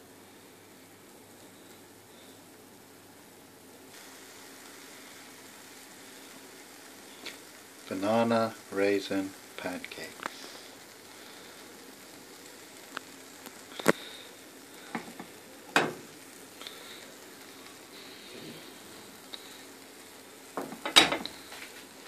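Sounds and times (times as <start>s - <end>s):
pancake sizzling in oil: 0.0s - 22.0s.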